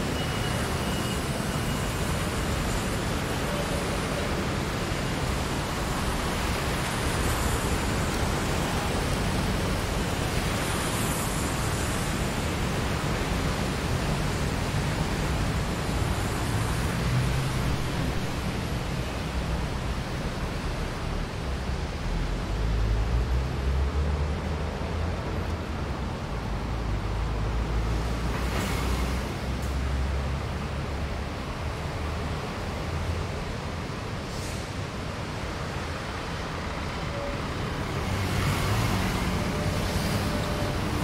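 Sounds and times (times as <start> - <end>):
passing road traffic: 0.0 - 41.0.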